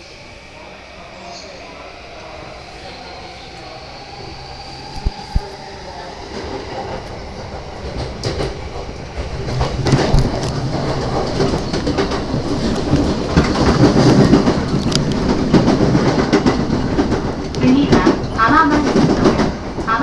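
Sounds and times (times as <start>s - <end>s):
train interior rumble: 0.0s - 20.0s
wheels clicking over rail joints: 0.8s - 20.0s.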